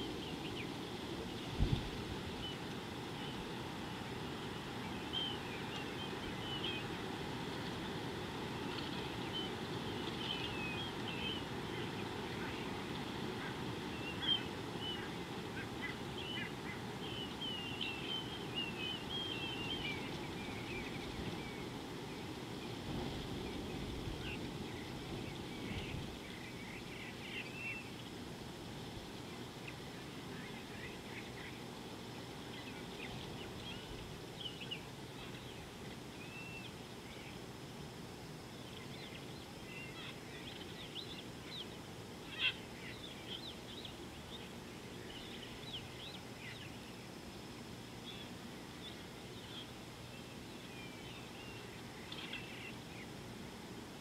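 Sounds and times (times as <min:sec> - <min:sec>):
small birds chirping: 0:00.0 - 0:37.6, 0:38.4 - 0:54.0.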